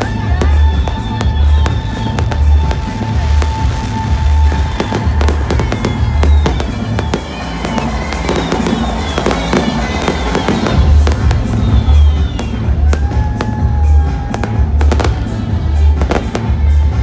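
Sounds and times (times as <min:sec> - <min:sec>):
fireworks banging and crackling: 0:00.0 - 0:17.0
music with deep bass beat: 0:00.0 - 0:17.0.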